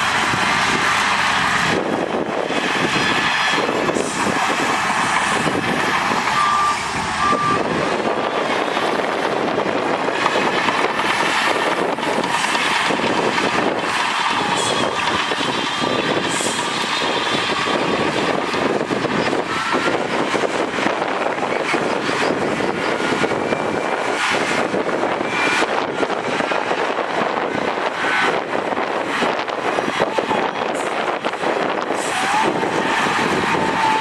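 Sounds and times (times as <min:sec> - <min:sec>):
diesel engines under load: 0:00.0 - 0:34.0.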